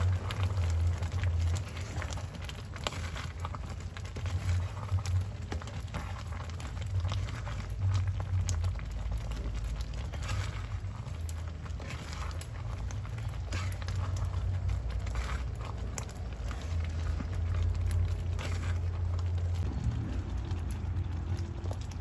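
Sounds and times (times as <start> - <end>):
wooden spatula scraping pan: 0.0 - 19.6
steady low hum: 0.0 - 22.0
thick mixture bubbling in pan: 0.0 - 22.0.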